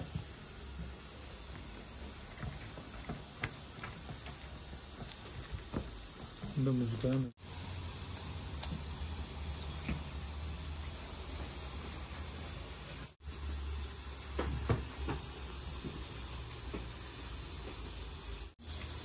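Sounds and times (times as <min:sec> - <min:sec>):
high hiss: 0:00.0 - 0:19.0.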